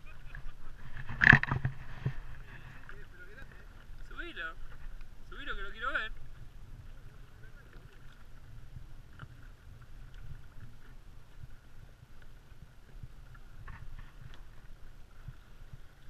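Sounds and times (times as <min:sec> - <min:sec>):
waves lapping against kayak hull: 0:00.0 - 0:16.0
wind rumbling on microphone: 0:00.0 - 0:16.0.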